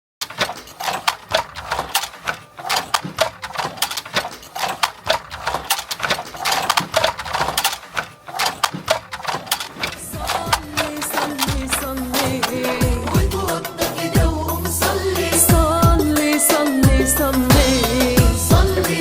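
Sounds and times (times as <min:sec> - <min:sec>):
dense irregular clacking: 0:00.2 - 0:19.0.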